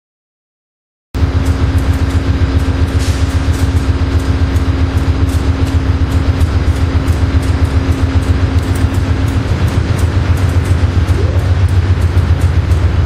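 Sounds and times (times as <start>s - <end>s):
loud low rumble with hum: 1.2s - 13.0s.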